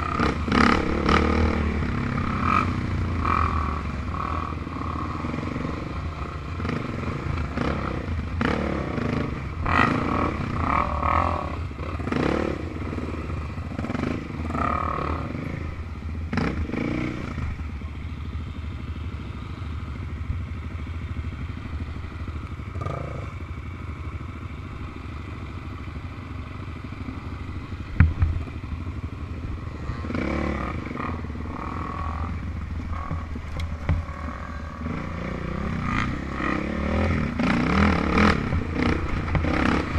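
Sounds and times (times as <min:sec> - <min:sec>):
off-road engines revving: 0:00.0 - 0:17.8, 0:21.0 - 0:24.0, 0:26.6 - 0:39.9.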